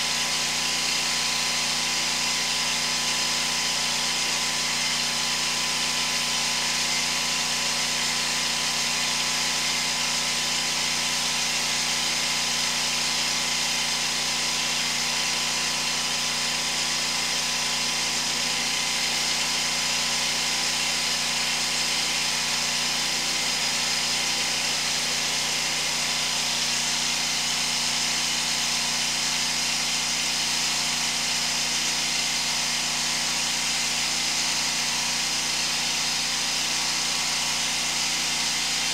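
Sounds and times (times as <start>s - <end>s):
hydro-jetter machine drone: 0.0s - 38.9s.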